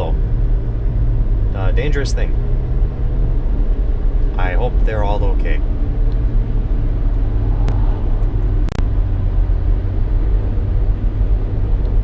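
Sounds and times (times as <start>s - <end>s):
car driving cabin rumble: 0.0s - 12.0s.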